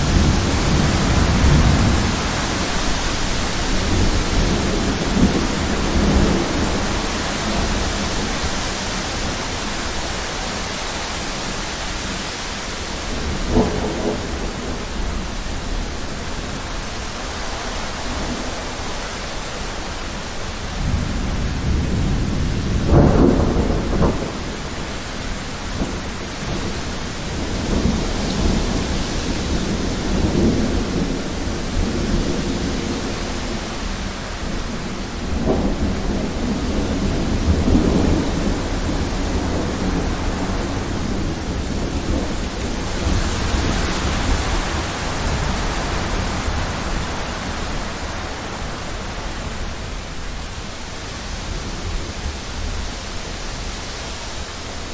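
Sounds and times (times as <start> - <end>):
rolling thunder: 0.0 - 10.5, 13.0 - 18.8, 20.7 - 50.6
heavy rain: 0.0 - 54.9.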